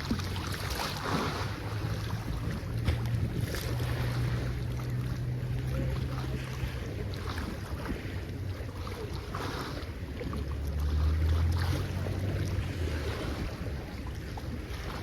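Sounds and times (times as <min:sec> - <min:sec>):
sea waves washing ashore: 0:00.0 - 0:15.0
steady low rumble: 0:00.0 - 0:15.0.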